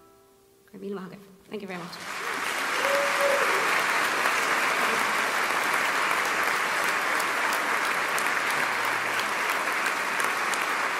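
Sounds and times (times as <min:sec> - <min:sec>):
audience applauding: 0:02.0 - 0:10.9.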